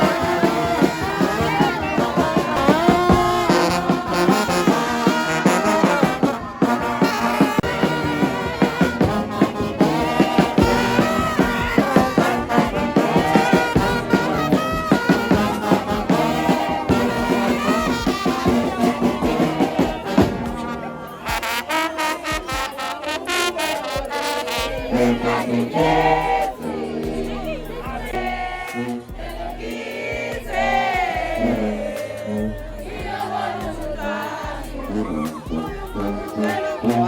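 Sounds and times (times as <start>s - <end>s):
brass music with beat: 0.0s - 37.0s.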